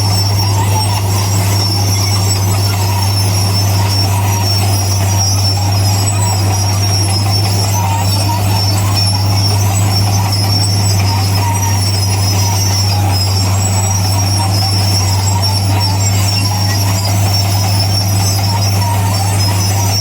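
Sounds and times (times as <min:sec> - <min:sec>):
bulldozer diesel engine drone: 0:00.0 - 0:20.0
metallic squealing of steel tracks: 0:00.0 - 0:20.0.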